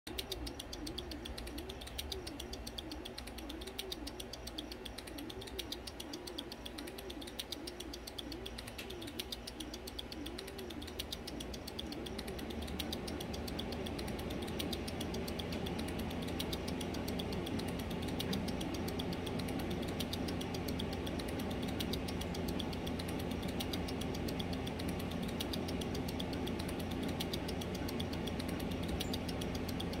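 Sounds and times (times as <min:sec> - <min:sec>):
fine mechanical ticking: 0:00.1 - 0:30.0
low hum: 0:00.1 - 0:30.0.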